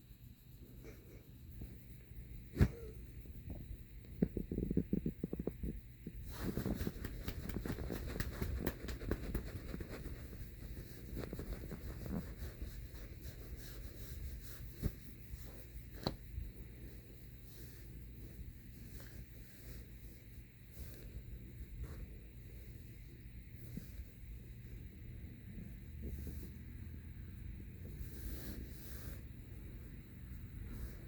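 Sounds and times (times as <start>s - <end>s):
hand patting cat fur: 3.6s - 31.0s.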